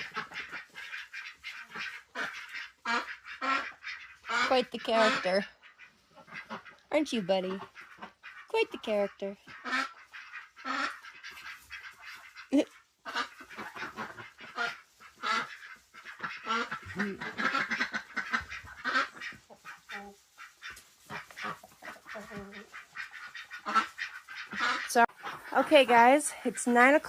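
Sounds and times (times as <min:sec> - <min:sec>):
ducks quacking: 0:00.0 - 0:27.0.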